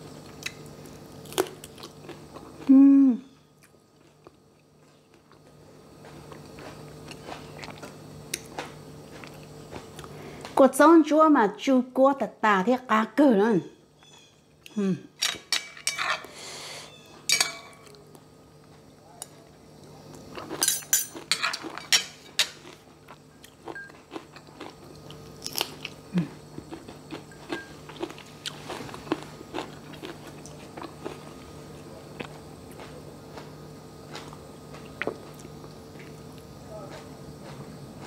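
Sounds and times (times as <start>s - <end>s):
faint steady hum: 0.0s - 38.0s
crunchy chewing: 0.1s - 10.6s, 17.8s - 38.0s.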